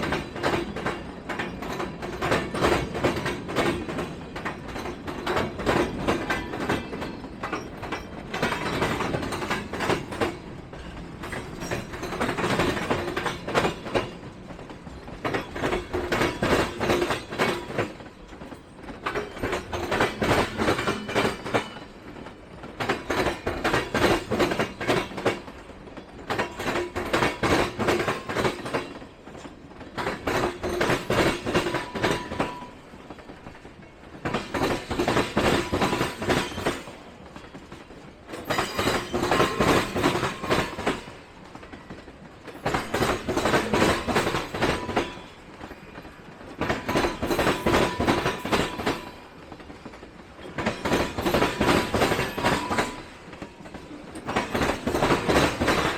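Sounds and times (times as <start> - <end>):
train wheels clacking over rail joints: 0.0 - 55.9.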